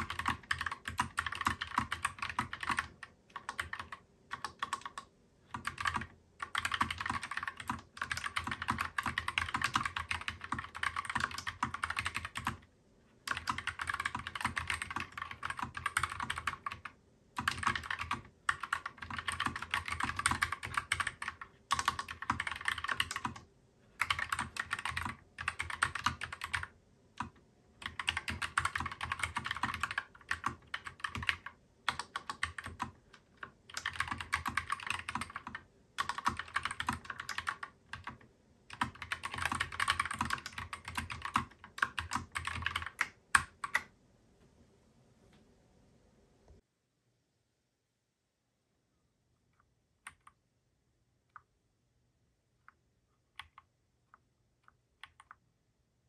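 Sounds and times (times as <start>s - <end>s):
mechanical keyboard typing: 0.0s - 43.9s, 50.0s - 50.4s, 53.3s - 55.4s.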